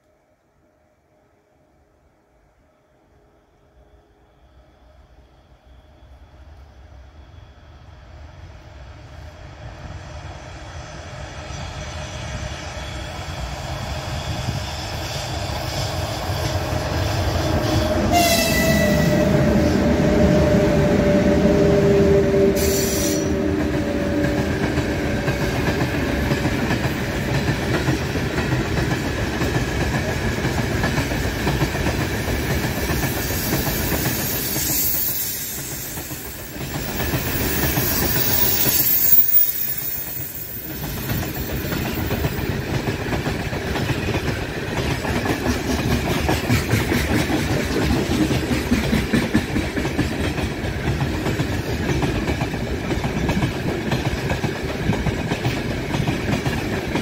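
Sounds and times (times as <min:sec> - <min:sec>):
electric locomotive rumble: 0:02.5 - 0:57.0.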